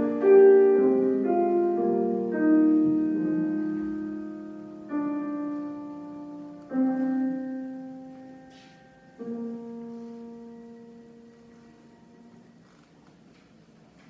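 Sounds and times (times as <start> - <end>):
piano chords: 0.0 - 13.3.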